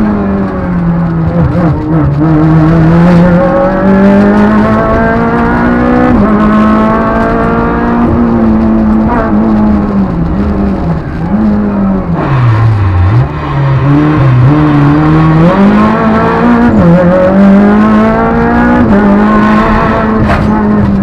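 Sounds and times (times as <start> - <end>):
car engine revving under hard driving: 0.0 - 21.0.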